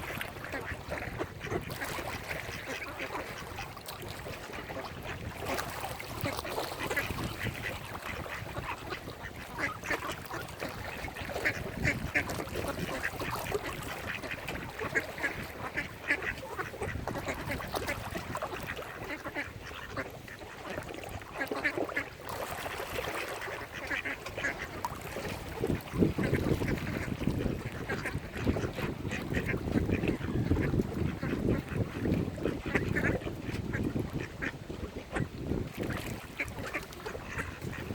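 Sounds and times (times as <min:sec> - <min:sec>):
ducks quacking: 0:00.0 - 0:37.9.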